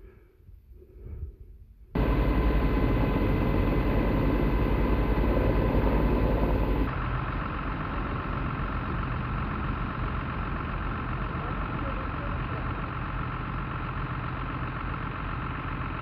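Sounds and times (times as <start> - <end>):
fire truck engine idling: 2.0 - 16.0
helicopter rotor pulsing overhead: 2.0 - 16.0.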